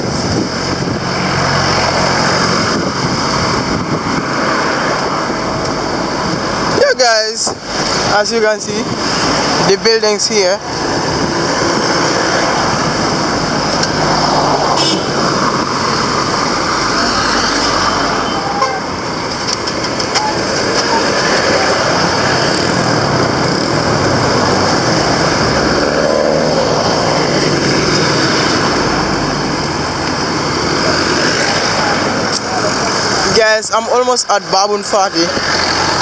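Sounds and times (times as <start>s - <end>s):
traffic passing on road: 0.0s - 36.0s.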